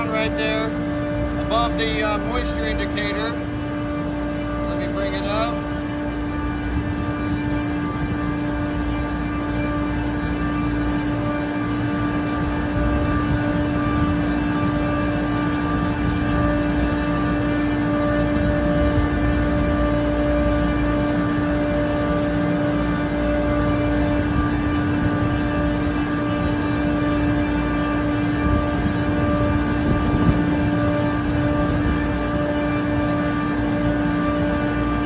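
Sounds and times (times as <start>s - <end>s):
chiller mechanical drone: 0.0s - 35.0s.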